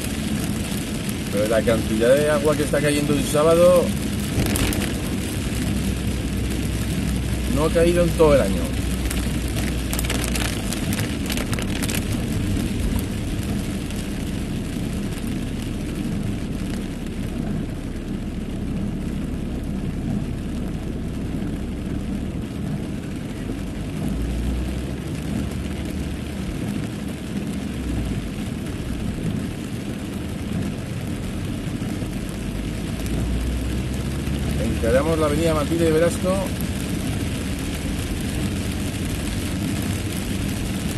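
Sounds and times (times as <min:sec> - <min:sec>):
car engine and tyres rumbling: 0:00.0 - 0:40.9
heavy rain on car: 0:00.0 - 0:40.9
sharp crackles: 0:00.0 - 0:40.9.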